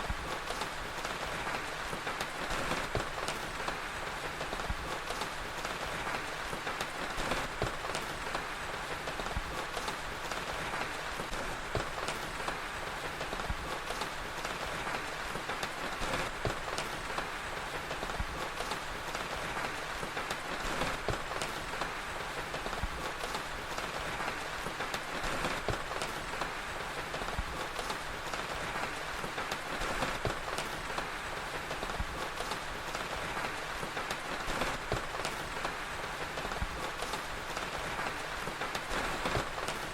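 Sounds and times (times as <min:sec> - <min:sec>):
fire crackling: 0:00.0 - 0:39.9
steady rain: 0:00.0 - 0:39.9.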